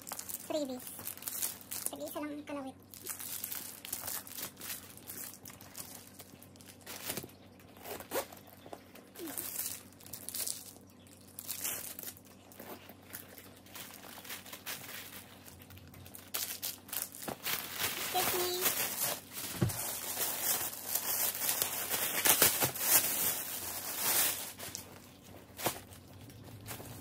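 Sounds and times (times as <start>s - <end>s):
plastic wrapping crinkling: 0.0s - 27.0s.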